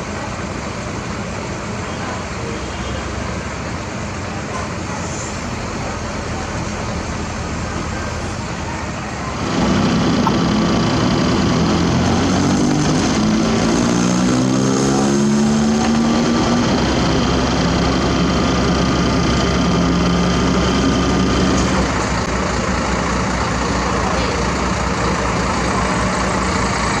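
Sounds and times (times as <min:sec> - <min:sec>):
heavy diesel engine revving: 0:03.1 - 0:27.0.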